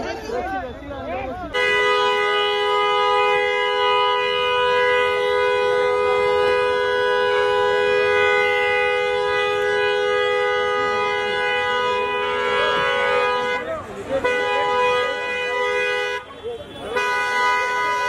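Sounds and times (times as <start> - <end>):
faint crowd voices: 0.0 - 18.0
two-tone car horn held: 1.6 - 18.0.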